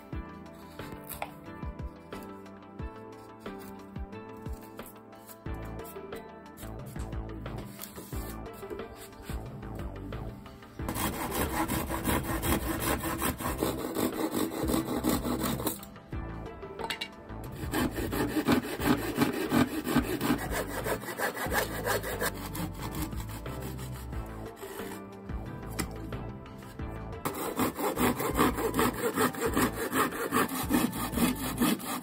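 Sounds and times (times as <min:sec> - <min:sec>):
hand saw cutting wood: 0:00.6 - 0:01.3, 0:03.2 - 0:06.0, 0:06.6 - 0:09.8, 0:10.8 - 0:15.9, 0:17.4 - 0:32.0.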